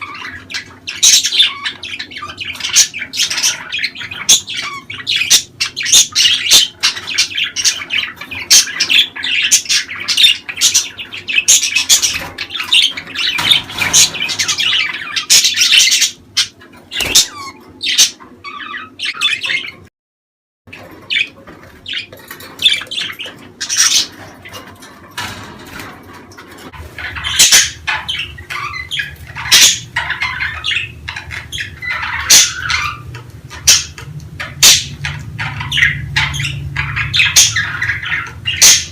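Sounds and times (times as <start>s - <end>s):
budgerigars chattering: 0.0s - 19.9s, 20.7s - 38.9s.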